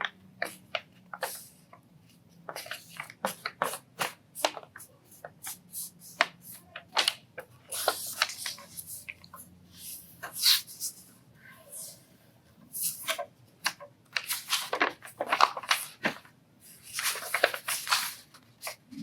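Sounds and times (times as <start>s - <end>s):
paper crinkling and rustling: 0.4s - 11.0s, 12.8s - 19.0s.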